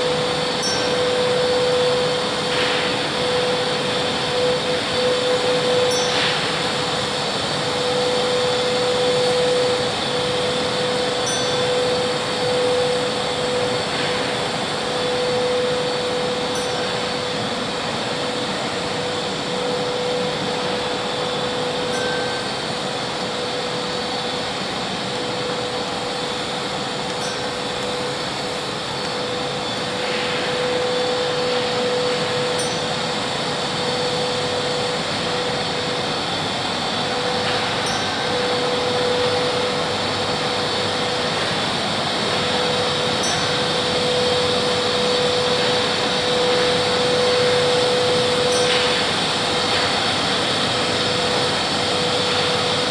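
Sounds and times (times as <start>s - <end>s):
mechanical hum: 0.0s - 52.9s.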